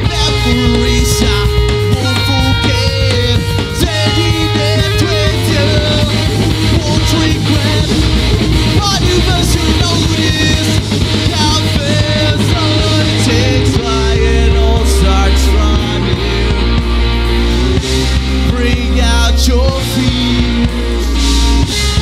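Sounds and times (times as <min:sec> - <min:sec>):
bass guitar: 0:00.0 - 0:22.0
drum kit with driving beat: 0:00.0 - 0:22.0
electric guitars: 0:00.0 - 0:22.0.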